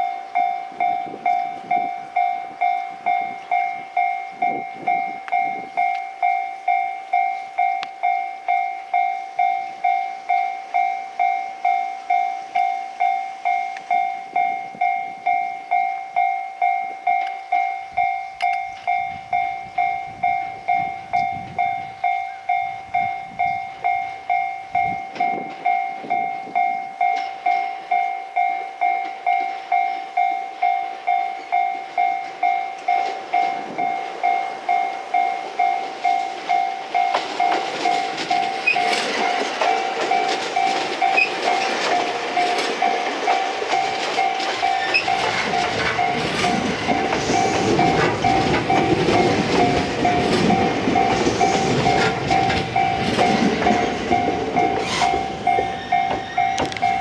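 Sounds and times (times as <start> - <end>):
electric train passing: 0.0 - 57.0
level crossing alarm dinging: 0.0 - 57.0.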